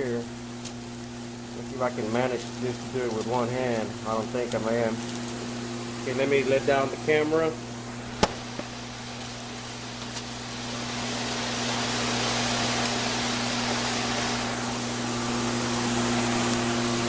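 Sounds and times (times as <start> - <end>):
background hiss: 0.0 - 17.0
low electrical hum: 0.0 - 17.0.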